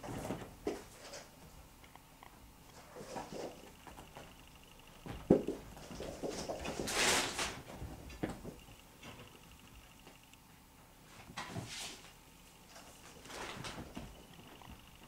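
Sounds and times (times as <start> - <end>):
kittens scampering and wrestling: 0.0 - 4.4, 5.0 - 9.4, 11.1 - 14.8.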